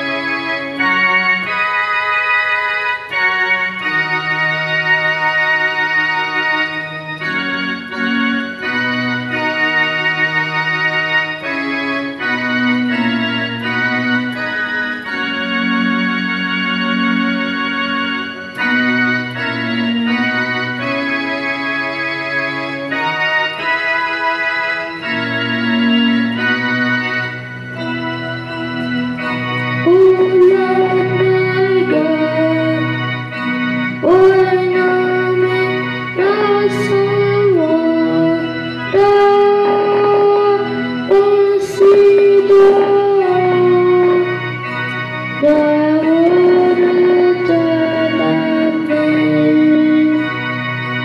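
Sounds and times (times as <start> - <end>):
electronic organ playing hymn chords: 0.0 - 51.0.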